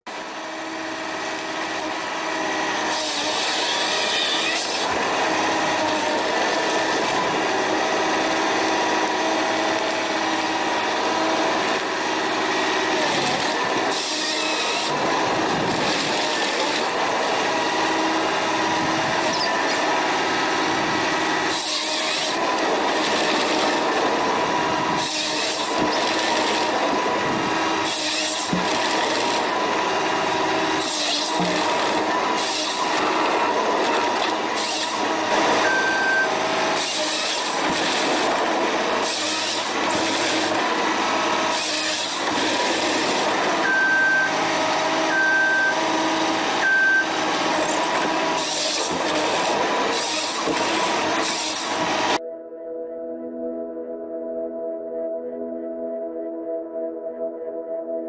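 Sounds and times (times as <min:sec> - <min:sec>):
log-cutting machinery droning: 0:00.0 - 0:52.2.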